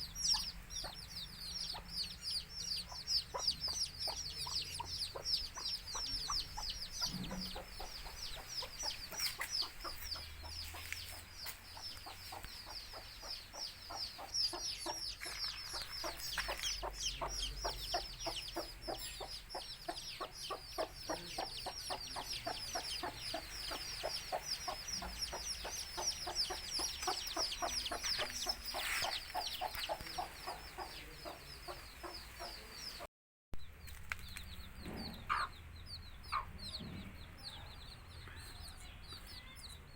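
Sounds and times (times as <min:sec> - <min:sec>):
chicks peeping: 0:00.0 - 0:33.1, 0:33.8 - 0:39.9
hen clucking: 0:00.0 - 0:33.1, 0:35.1 - 0:37.8.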